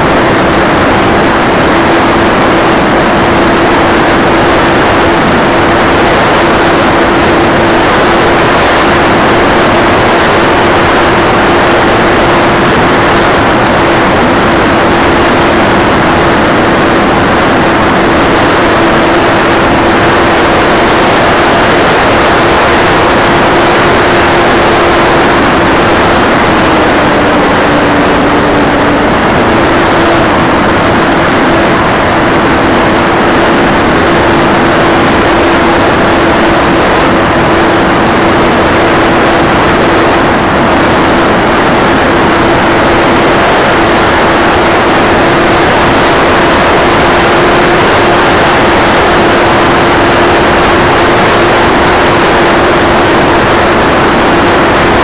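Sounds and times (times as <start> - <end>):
electric motor and propeller whine: 0.0 - 55.0
wind rushing over camera: 0.0 - 55.0.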